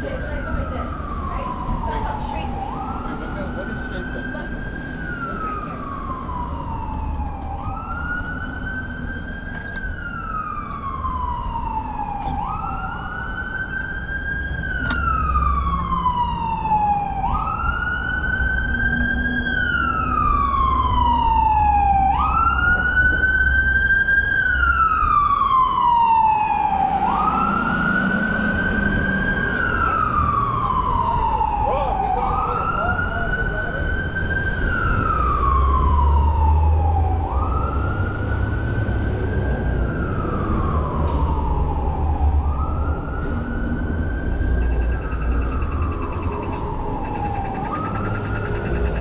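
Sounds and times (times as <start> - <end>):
emergency vehicle siren wailing: 0.0 - 49.0.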